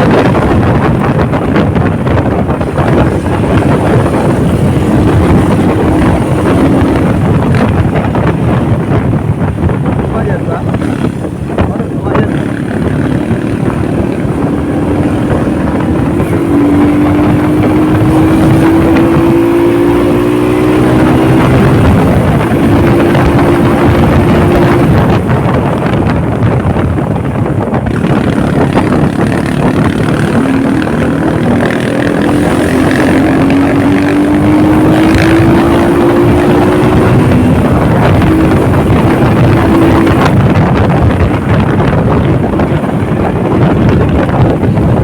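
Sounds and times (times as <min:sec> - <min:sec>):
motorcycle engine running: 0:00.0 - 0:45.0
wind and road rush: 0:00.0 - 0:45.0.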